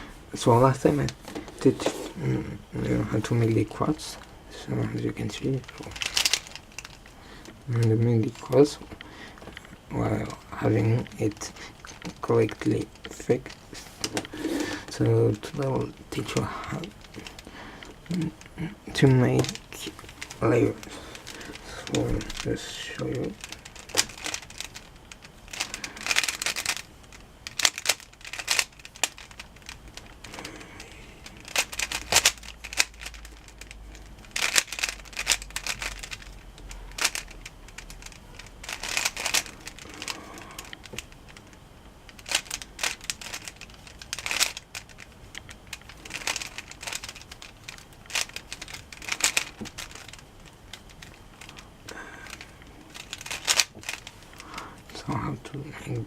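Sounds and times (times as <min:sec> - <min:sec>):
puzzle cube clicking turns: 0:00.0 - 0:56.0.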